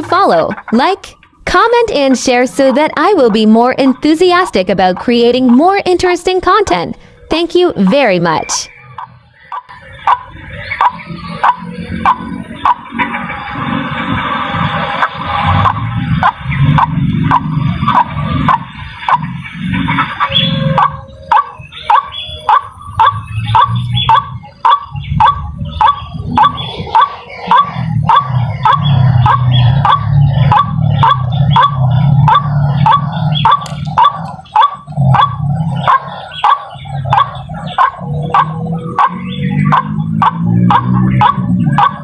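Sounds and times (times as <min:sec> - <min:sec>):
bird harsh croaking calls: 0:00.0 - 0:06.0, 0:06.9 - 0:42.0
steady low rumble: 0:00.0 - 0:42.0.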